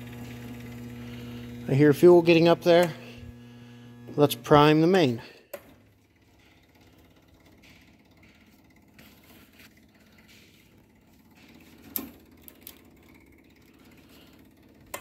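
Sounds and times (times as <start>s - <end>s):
fuel pump humming: 0.0s - 15.0s.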